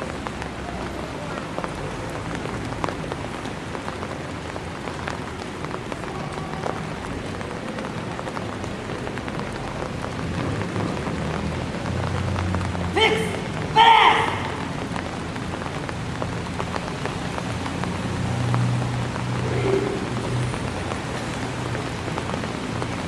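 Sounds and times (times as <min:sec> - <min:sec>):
rain on stone paving: 0:00.0 - 0:23.0.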